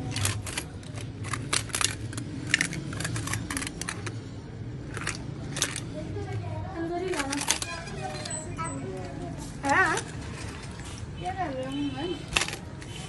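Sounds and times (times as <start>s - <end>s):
small hard objects clicking: 0.0s - 10.8s, 12.2s - 13.0s.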